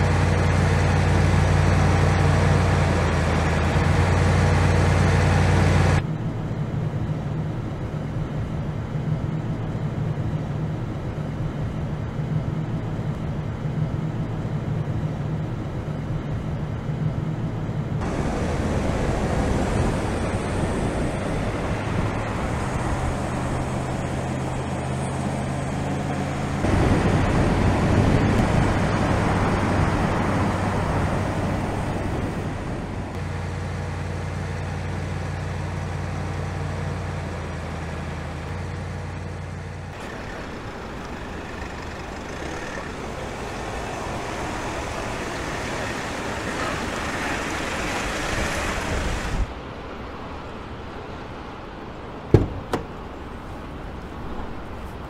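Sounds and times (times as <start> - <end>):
tyre and road noise: 0.0 - 55.0
van engine hum: 0.0 - 55.0.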